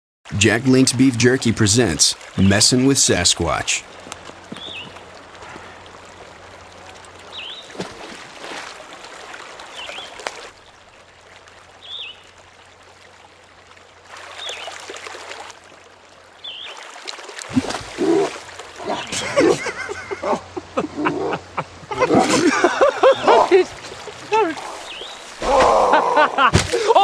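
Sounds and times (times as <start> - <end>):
running water: 0.3 - 27.0.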